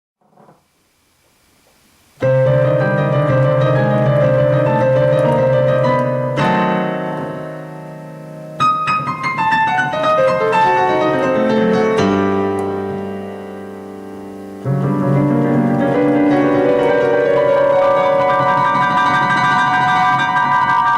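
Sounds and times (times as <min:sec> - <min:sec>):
piano music: 0:02.2 - 0:20.9.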